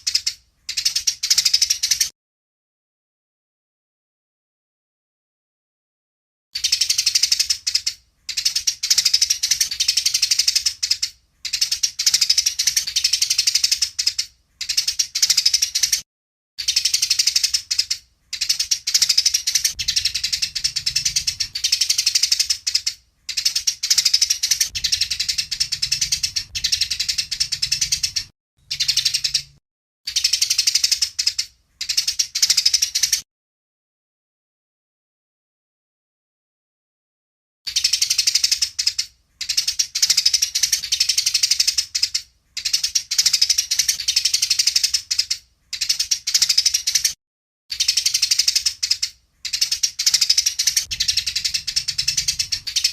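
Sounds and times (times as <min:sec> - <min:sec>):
sparrows chirping harshly: 0:00.0 - 0:02.1, 0:06.6 - 0:16.0, 0:16.6 - 0:33.2, 0:37.7 - 0:52.9.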